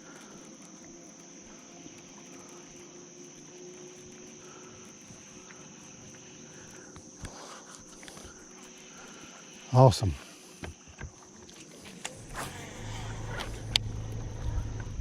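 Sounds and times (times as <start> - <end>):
faint low hum: 0.0 - 15.0
insects droning: 0.0 - 15.0.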